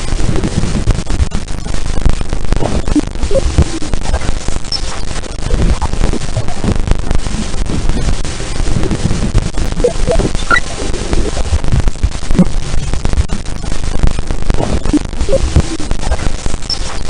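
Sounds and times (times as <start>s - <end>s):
dense crackling static: 0.0s - 17.0s.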